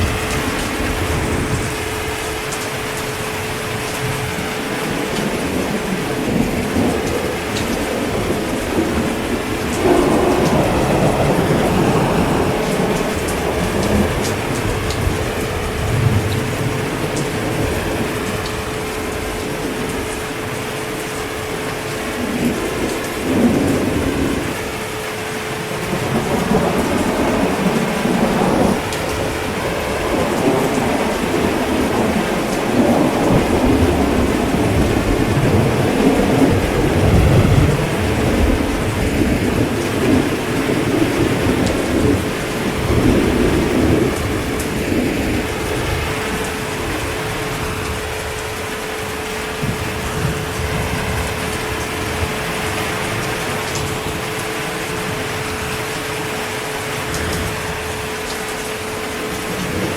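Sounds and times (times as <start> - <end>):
heavy rain: 0.0 - 59.9
thunder rumbling: 0.0 - 59.9.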